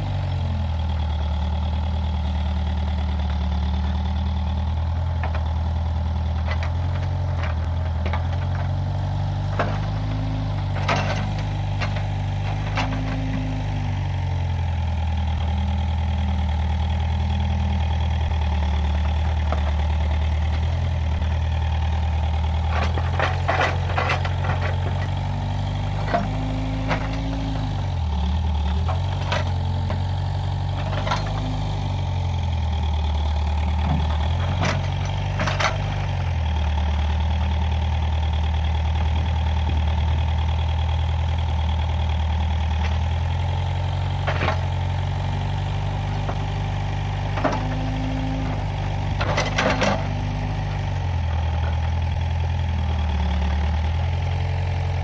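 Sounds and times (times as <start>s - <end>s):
backhoe diesel engine bogging: 0.0s - 55.0s.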